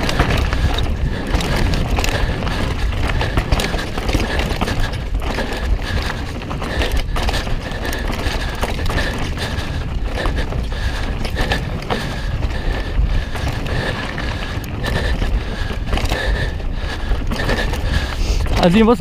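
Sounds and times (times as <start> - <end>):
bike knocking and rattling: 0.0 - 19.0
bike tyres rolling on dirt: 0.0 - 19.0
wind noise on microphone: 0.0 - 19.0.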